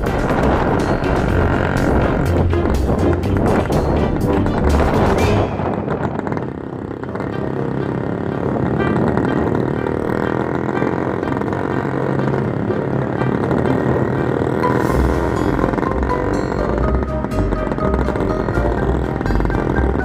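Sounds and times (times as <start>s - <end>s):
motorcycle engine running: 0.0s - 20.0s
road noise: 0.0s - 20.0s.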